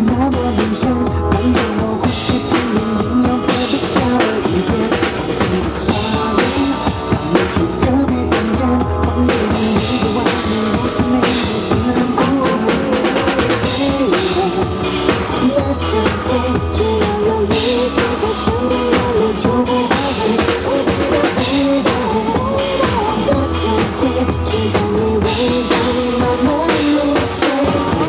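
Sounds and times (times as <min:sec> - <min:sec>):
drum kit playing steady beat: 0:00.0 - 0:28.0
recorded pop song: 0:00.0 - 0:28.0.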